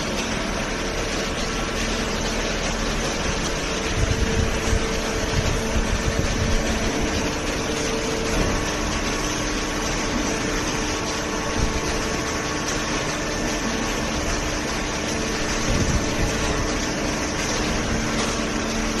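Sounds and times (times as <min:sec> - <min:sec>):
held hum tones: 0:00.0 - 0:19.0
hydraulic baler machine noise: 0:00.0 - 0:19.0.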